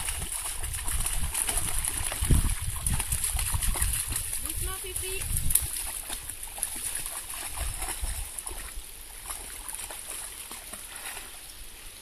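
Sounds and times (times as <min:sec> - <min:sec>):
dog splashing through water: 0:00.0 - 0:11.5
river running over stones: 0:00.0 - 0:12.0.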